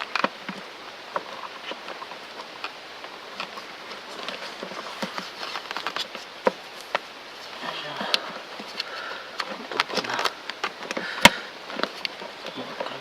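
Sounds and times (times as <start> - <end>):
handling clicks and rustles: 0.0 - 13.0.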